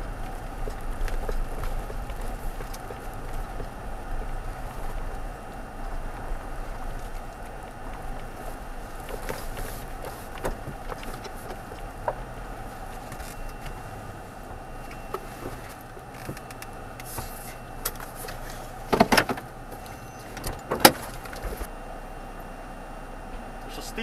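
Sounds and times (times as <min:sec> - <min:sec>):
branches scraping truck: 0:00.0 - 0:24.0
truck engine and road noise: 0:00.0 - 0:24.0.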